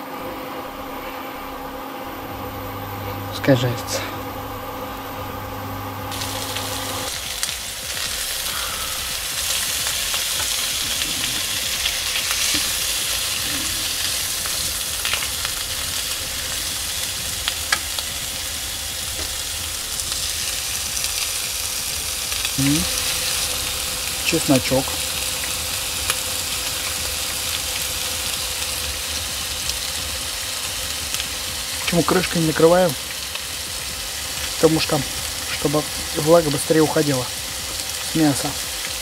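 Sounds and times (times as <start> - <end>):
steady hum: 0.0 - 39.0
pork sizzling in a frying pan: 5.3 - 39.0.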